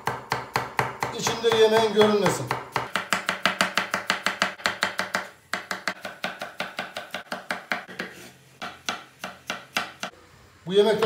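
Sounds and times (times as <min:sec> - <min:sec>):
knife chopping on wooden board: 0:00.0 - 0:10.1.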